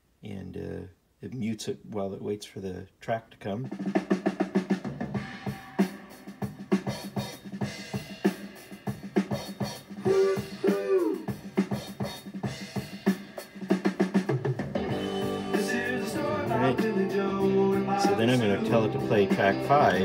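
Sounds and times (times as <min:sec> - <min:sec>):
music with steady drum beat: 0:03.6 - 0:20.0.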